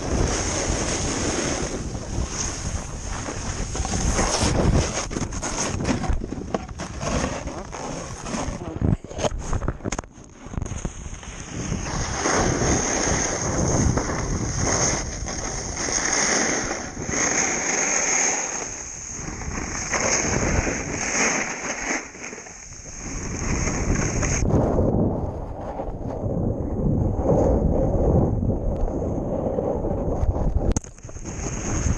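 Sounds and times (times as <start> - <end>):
snow rustling and crunching: 0.0 - 26.4, 30.6 - 31.9
wind noise on microphone: 0.0 - 31.9.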